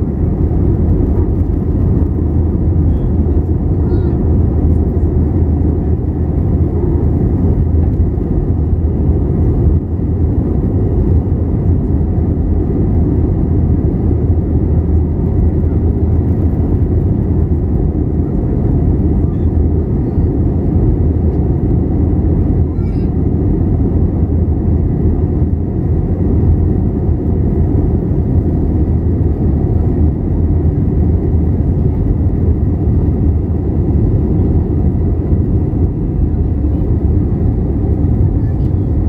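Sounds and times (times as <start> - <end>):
airplane cabin engine noise: 0.0 - 39.0.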